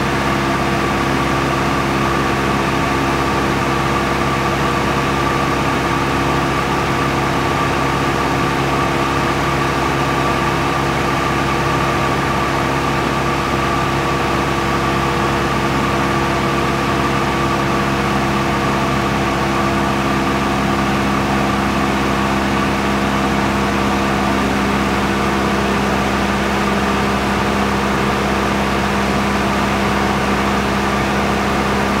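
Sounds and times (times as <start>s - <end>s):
small aircraft engine drone: 0.0s - 32.0s.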